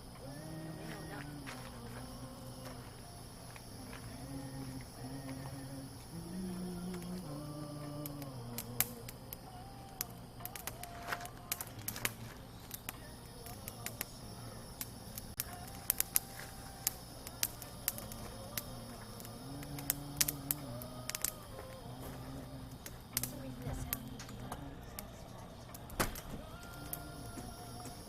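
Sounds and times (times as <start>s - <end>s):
campfire crackling and popping: 0.0s - 28.0s
faint low humming tone: 0.0s - 28.0s.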